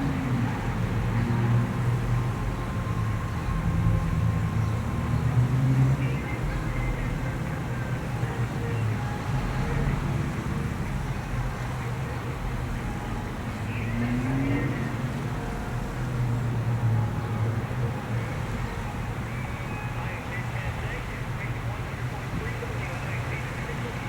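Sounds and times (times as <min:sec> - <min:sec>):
traffic engine rumble: 0:00.0 - 0:24.0.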